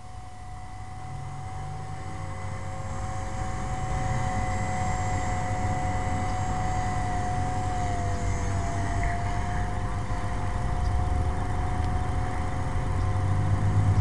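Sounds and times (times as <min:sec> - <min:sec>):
rc helicopter whine: 0:00.0 - 0:14.0.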